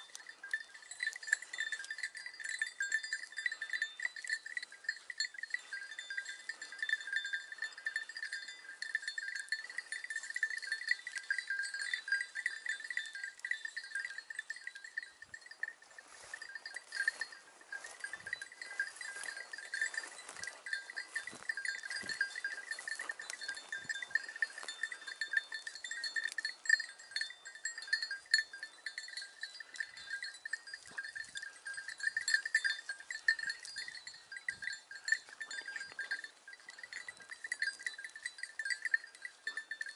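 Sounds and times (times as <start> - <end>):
dog collar bell jingling: 0.0 - 39.9
rustling of vegetation: 0.0 - 39.9.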